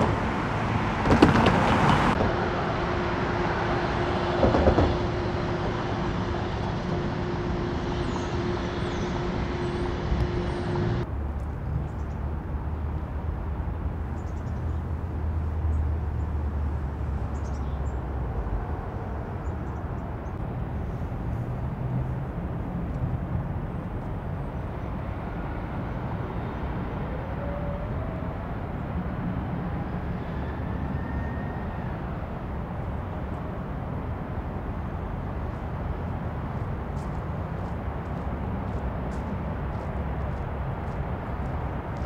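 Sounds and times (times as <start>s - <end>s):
vehicle rumble: 0.0s - 42.0s.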